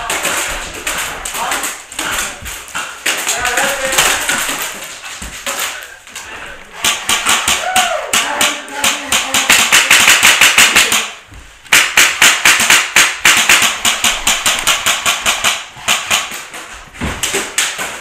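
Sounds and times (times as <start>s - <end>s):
rapid airsoft gunfire: 0.0s - 4.8s, 6.8s - 16.6s.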